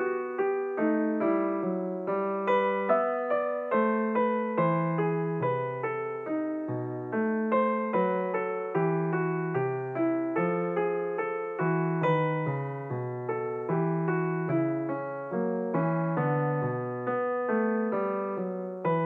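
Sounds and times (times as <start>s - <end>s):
gentle electric piano melody: 0.0s - 19.0s.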